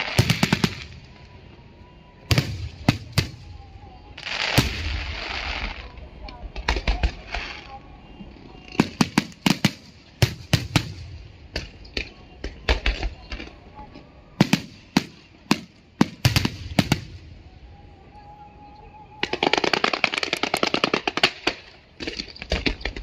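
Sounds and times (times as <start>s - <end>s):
fireworks bursting: 0.0s - 13.6s, 14.4s - 17.4s, 19.2s - 23.0s.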